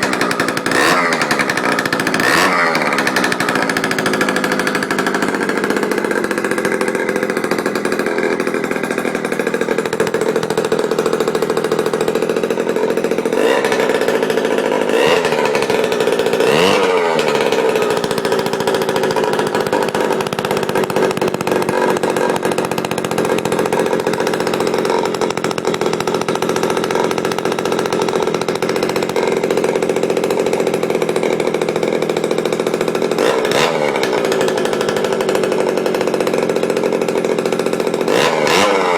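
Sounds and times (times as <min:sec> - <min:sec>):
two-stroke engine idling fast: 0:00.0 - 0:38.9.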